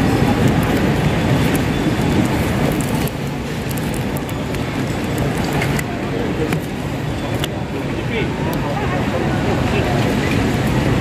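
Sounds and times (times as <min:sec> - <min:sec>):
terminal hall rumble: 0:00.0 - 0:11.0.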